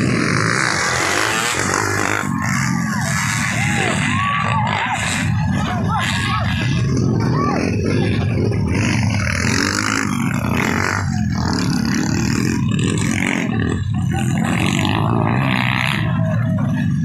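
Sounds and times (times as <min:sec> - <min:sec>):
dirt bike engines: 0:00.0 - 0:17.0.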